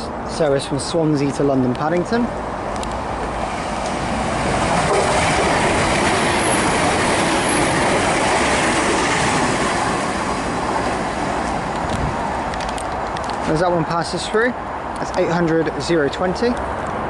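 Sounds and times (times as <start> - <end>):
train passing at speed: 2.1 - 17.0.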